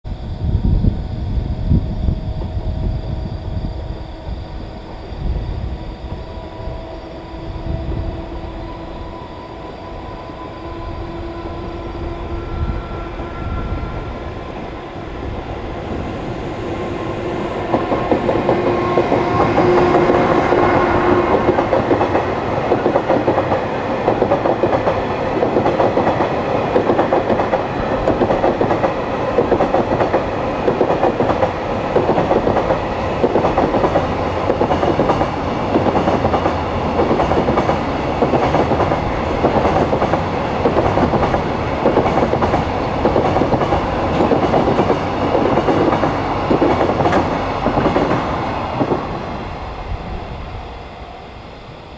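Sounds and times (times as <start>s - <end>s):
freight train rumbling: 0.0s - 51.9s.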